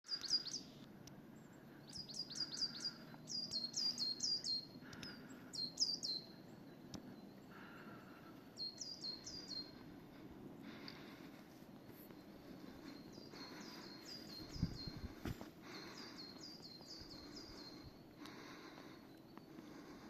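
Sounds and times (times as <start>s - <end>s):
low outdoor rumble: 0.5s - 20.0s.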